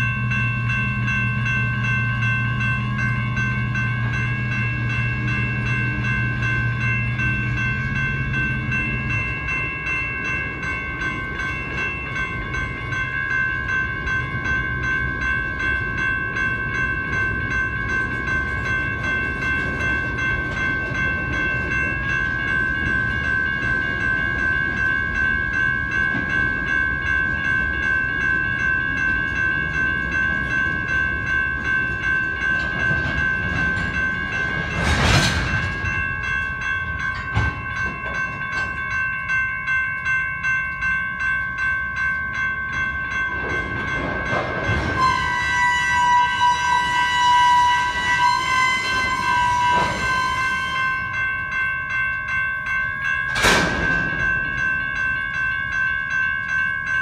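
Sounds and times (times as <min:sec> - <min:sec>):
railroad crossing bell ringing: 0:00.0 - 0:57.0
train wheels rumbling on rails: 0:00.0 - 0:57.0.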